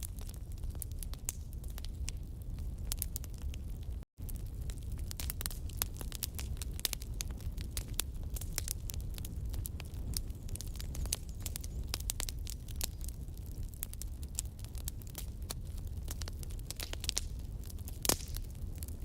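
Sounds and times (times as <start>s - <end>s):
fire crackling and snapping: 0.0s - 19.0s
flames rumbling: 0.0s - 19.0s.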